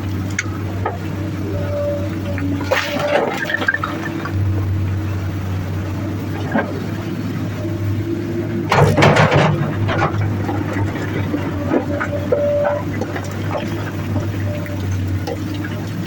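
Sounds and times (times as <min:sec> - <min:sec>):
excavator diesel engine humming: 0:00.0 - 0:16.0.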